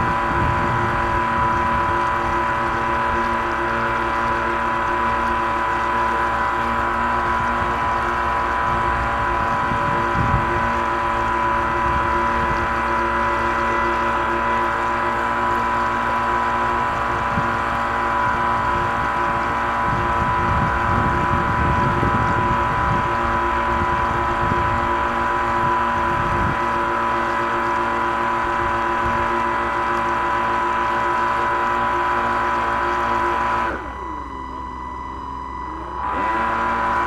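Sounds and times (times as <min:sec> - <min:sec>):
electric boat motor whining: 0:00.0 - 0:37.0.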